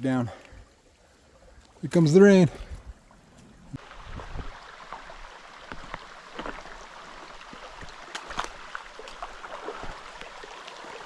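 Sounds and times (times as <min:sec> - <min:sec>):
creek water: 0:00.0 - 0:11.0
rain hiss: 0:00.0 - 0:11.0.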